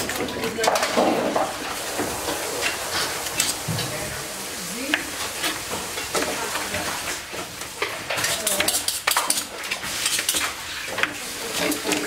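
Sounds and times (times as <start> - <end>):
steady hissing background: 0.0 - 12.0.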